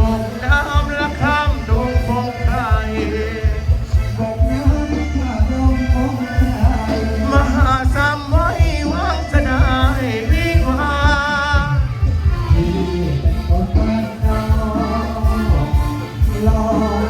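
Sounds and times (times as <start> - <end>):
bass drum beat: 0.0 - 17.0
live band music: 0.0 - 17.0
person singing ornamented notes: 0.0 - 17.0.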